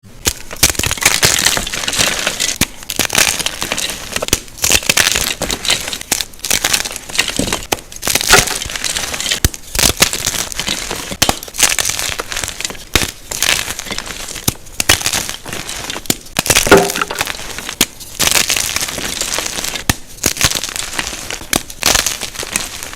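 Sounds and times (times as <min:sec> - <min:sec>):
chalk being crushed: 0:00.2 - 0:22.9.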